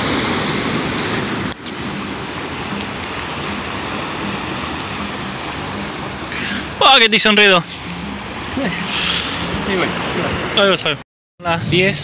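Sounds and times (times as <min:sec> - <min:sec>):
surf breaking on shore: 0:00.0 - 0:11.0.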